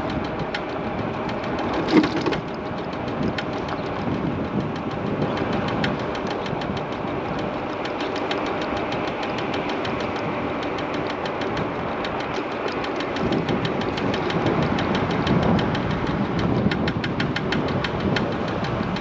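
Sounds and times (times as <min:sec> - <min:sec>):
electric scooter riding: 0:00.0 - 0:19.0
rapid ticking from scooter wheel: 0:00.0 - 0:19.0
wind and road noise: 0:00.0 - 0:19.0.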